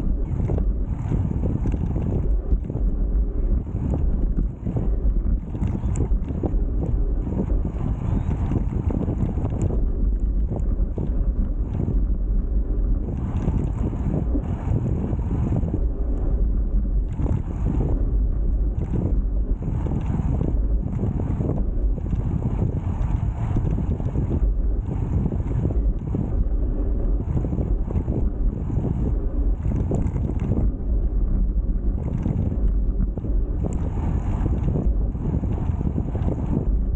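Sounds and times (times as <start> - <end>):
wind rumbling on microphone: 0.0 - 36.9.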